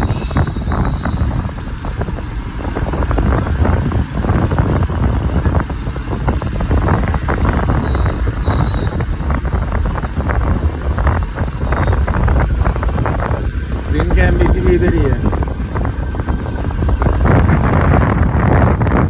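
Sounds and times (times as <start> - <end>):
scooter and road rumble: 0.0 - 19.0
wind buffeting microphone: 0.0 - 19.0.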